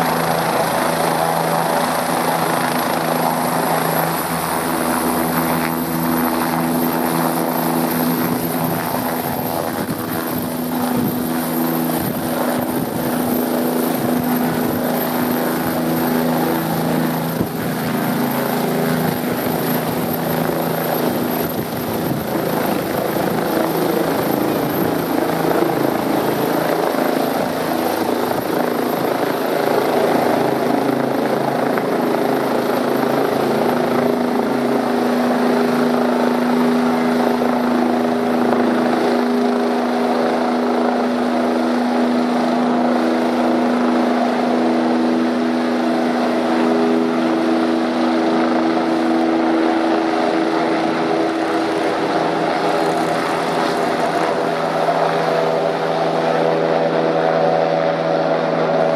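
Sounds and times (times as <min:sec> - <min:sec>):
helicopter rotor noise: 0:00.0 - 0:58.9
turbine whine: 0:00.0 - 0:58.9.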